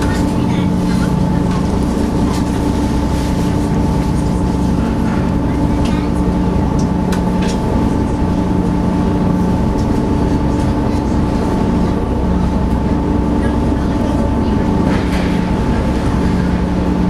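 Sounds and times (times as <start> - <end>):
ferry engines droning: 0.0 - 17.0.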